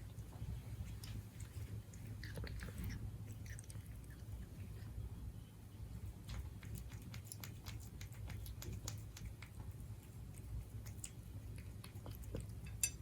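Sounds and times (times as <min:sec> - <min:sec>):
cat chewing food: 0:00.0 - 0:05.2, 0:05.9 - 0:13.0
steady low hum: 0:00.0 - 0:13.0.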